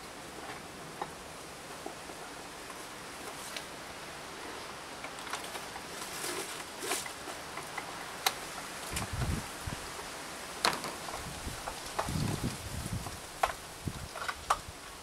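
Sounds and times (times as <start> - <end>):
rustling: 0.0 - 15.0
steady hiss: 0.0 - 15.0.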